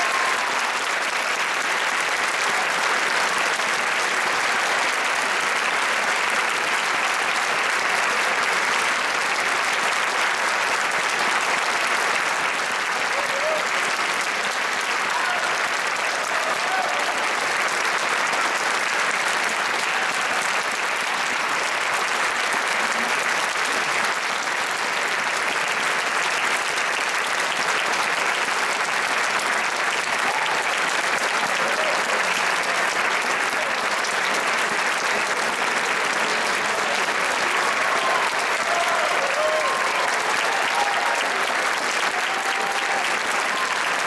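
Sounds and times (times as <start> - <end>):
audience applauding: 0.0 - 44.0.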